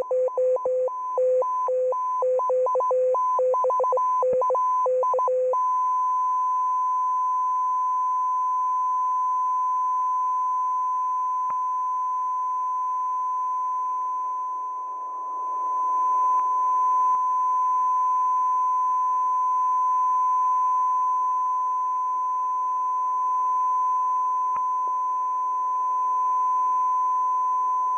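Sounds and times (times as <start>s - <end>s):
steady radio beep tone: 0.0s - 27.9s.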